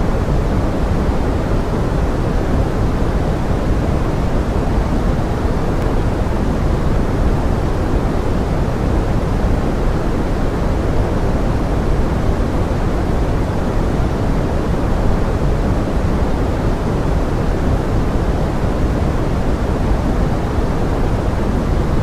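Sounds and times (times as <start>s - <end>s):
pink noise: 0.0s - 22.0s.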